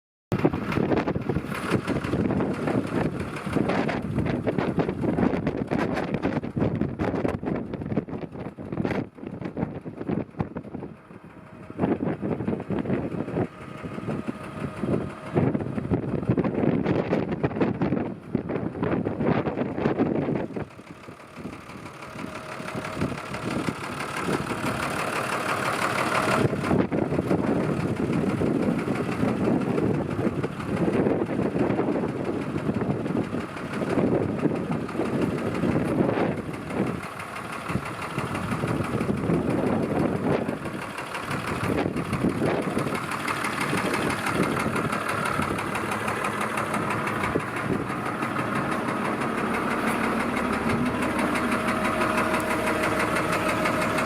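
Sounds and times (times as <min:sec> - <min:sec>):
tractor diesel engine running: 0:00.3 - 0:54.0.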